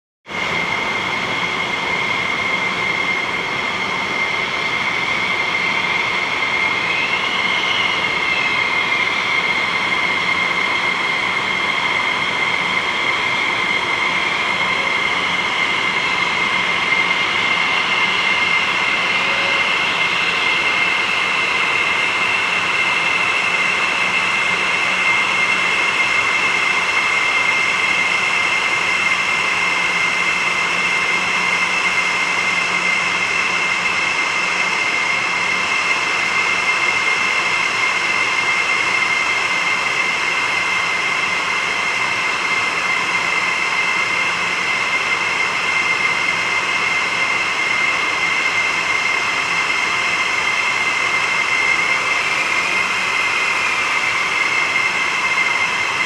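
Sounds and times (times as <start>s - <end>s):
jet engines idling: 0.3s - 56.0s.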